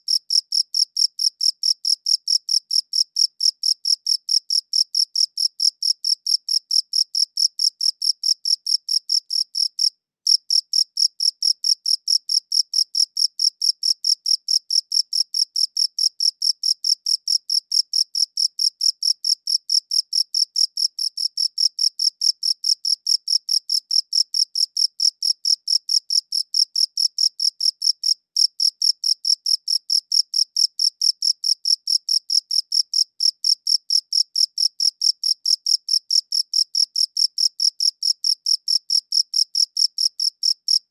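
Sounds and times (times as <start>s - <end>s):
cricket chirping: 0.1s - 40.8s.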